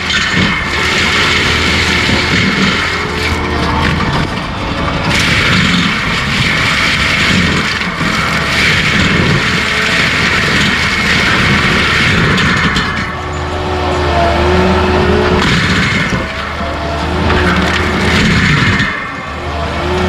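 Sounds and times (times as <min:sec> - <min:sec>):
stump grinder mechanical noise: 0:00.0 - 0:20.0.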